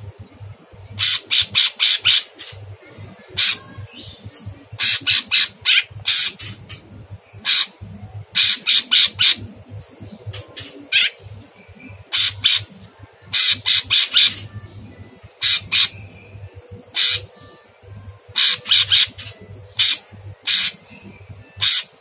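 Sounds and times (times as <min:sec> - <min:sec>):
bird calling in rasping notes: 0:00.9 - 0:02.6, 0:03.3 - 0:22.0.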